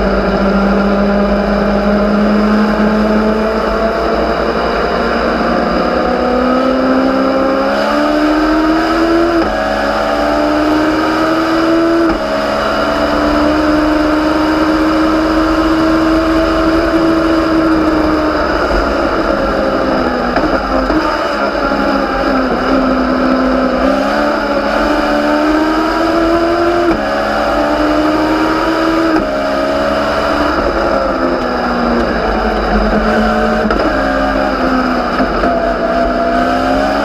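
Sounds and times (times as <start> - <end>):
race car engine accelerating: 0.0 - 37.0.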